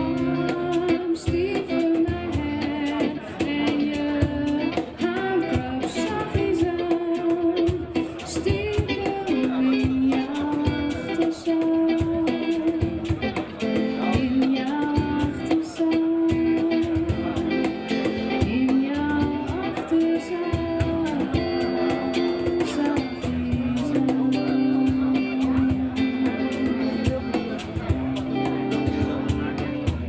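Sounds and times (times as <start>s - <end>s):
woman singing: 0.0s - 27.2s
cajon beat: 0.0s - 30.0s
electric guitar chords: 0.0s - 30.0s.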